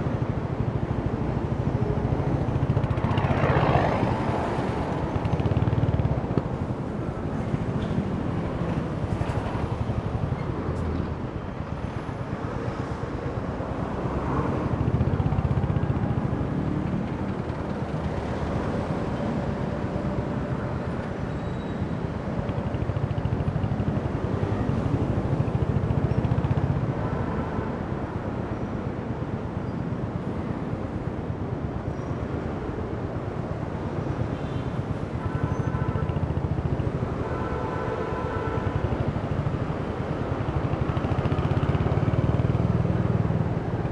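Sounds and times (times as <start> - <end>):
wind: 0.0 - 43.9.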